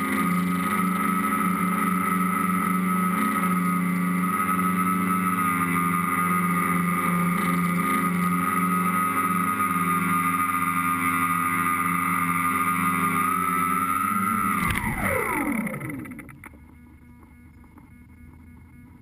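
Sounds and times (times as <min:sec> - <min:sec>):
drone motors humming and whining: 0:00.0 - 0:19.0.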